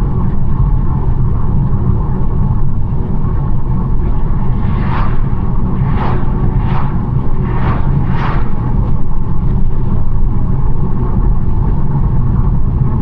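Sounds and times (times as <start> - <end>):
car engine and tyre rumble: 0.2 - 13.0.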